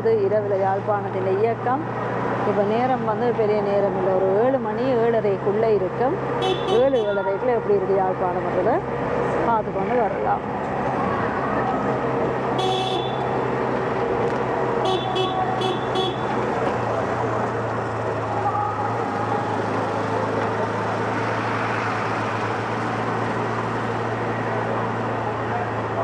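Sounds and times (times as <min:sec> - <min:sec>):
auto-rickshaw engine running: 0:00.0 - 0:26.0
road noise: 0:00.0 - 0:26.0.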